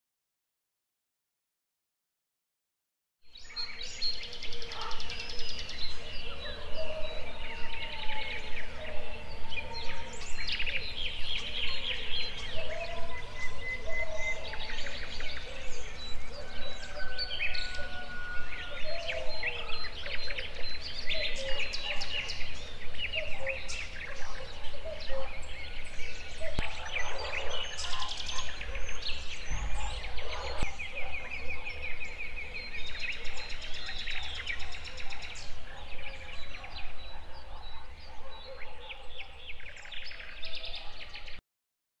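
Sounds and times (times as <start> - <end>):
birds chirping and trilling: 3.3 - 41.4.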